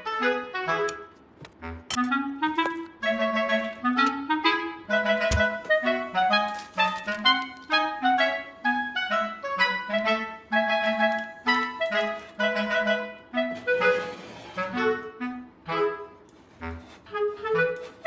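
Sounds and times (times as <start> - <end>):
woodwind melody: 0.0 - 18.0.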